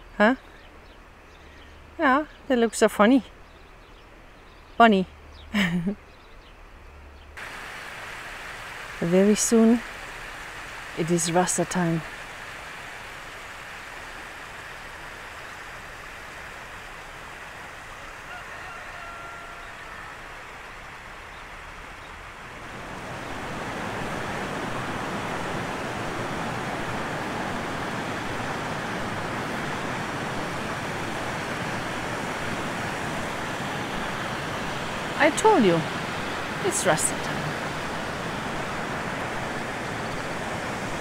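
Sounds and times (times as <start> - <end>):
steady rushing outdoor noise: 0.0 - 2.6, 3.2 - 41.0.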